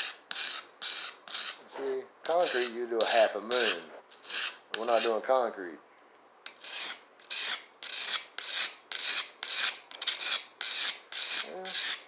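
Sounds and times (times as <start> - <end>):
knife scraping on sharpening stone: 0.0 - 1.6, 2.3 - 5.2, 6.4 - 12.0.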